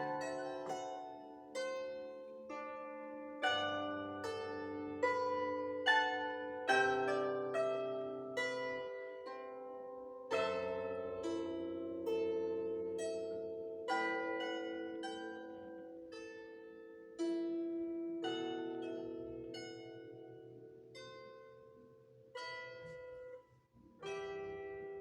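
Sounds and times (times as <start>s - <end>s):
slow solo instrumental music: 0.0s - 25.0s.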